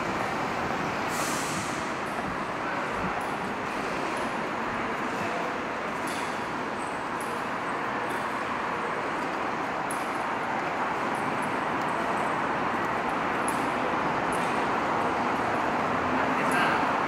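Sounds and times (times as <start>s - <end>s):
urban background hiss: 0.0s - 17.0s.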